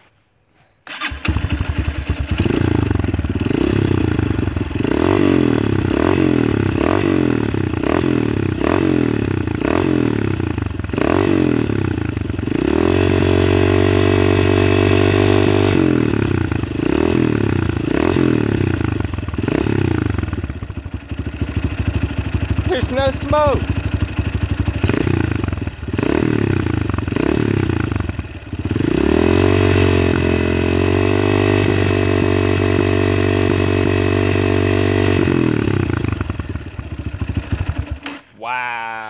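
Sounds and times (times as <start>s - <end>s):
motorcycle engine revving: 0.9s - 38.2s.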